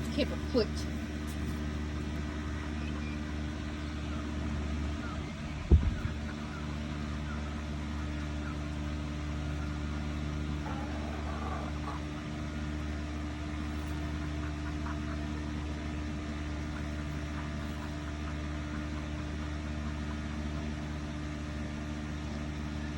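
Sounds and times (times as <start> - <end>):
low mechanical hum: 0.0 - 22.9
hen clucking softly: 0.1 - 12.4, 13.3 - 21.0.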